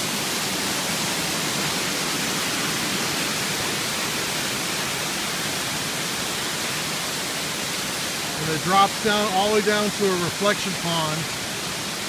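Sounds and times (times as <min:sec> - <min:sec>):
waterfall rushing over rocks: 0:00.0 - 0:12.0.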